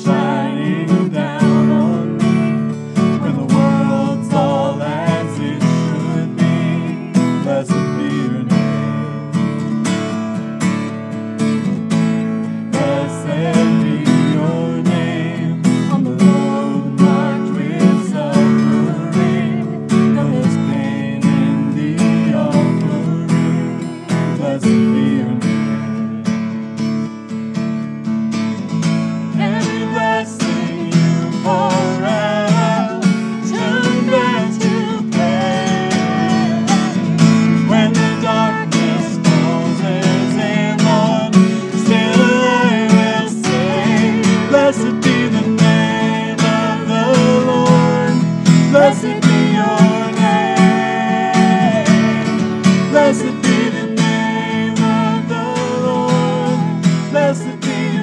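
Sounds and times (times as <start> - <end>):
man and woman singing: 0.0 - 9.3, 12.6 - 25.6, 29.3 - 58.0
acoustic guitar strumming: 0.0 - 58.0.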